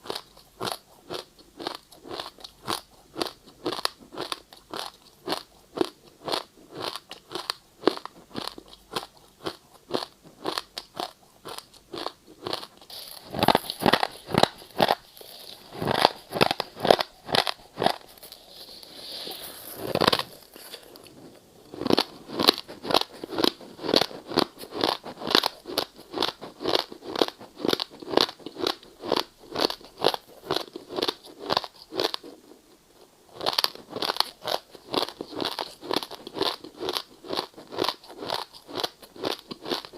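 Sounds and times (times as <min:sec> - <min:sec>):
ice being chewed crunching: 0:00.0 - 0:32.6, 0:33.3 - 0:39.9.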